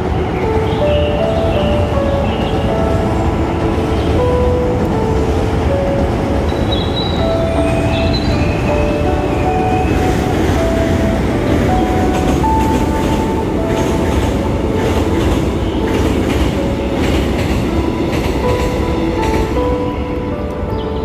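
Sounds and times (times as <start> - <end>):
train wheels clattering: 0.0 - 20.5
slow soft melody: 0.0 - 21.0
train rumbling across a bridge: 0.0 - 21.0.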